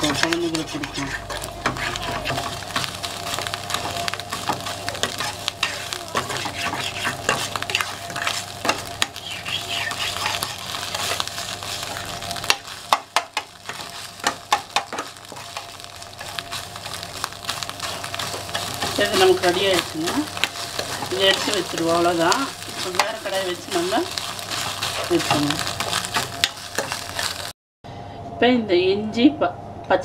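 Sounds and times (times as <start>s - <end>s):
metal spoon scraping frying pan: 0.0s - 27.4s
eggs sizzling in hot oil: 0.0s - 27.6s.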